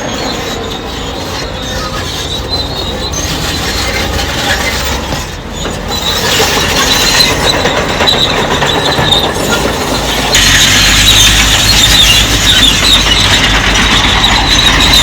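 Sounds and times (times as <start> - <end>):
bulldozer diesel engine running: 0.0 - 15.0
steel tracks squealing and clattering: 0.0 - 15.0.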